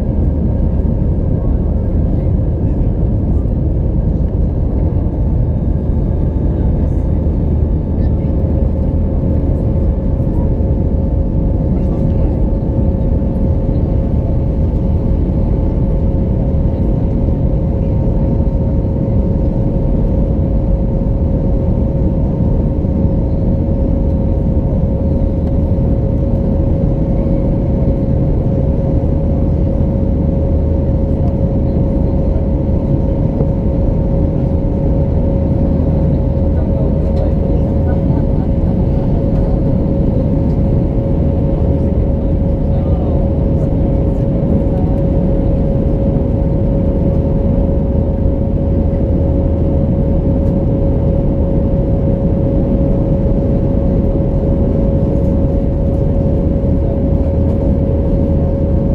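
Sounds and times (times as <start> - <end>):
jet engine whine: 0.0 - 58.9
roar of engines and airflow: 0.0 - 58.9.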